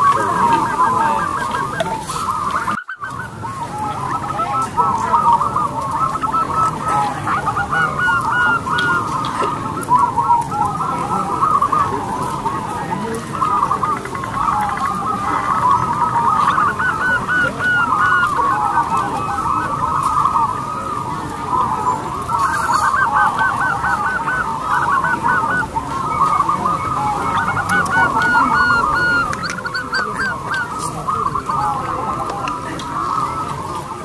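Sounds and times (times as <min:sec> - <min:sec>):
doves cooing: 0:00.0 - 0:34.0.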